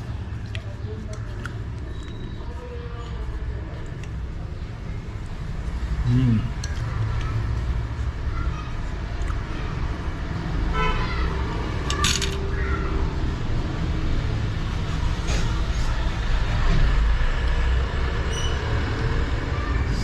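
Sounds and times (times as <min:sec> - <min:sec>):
road traffic rumbling: 0:00.0 - 0:20.0.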